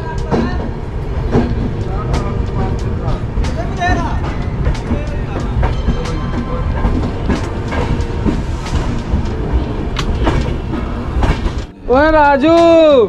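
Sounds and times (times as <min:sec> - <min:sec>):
train wheels rumbling on track: 0:00.0 - 0:13.0
wheels clacking over rail joints: 0:00.0 - 0:13.0.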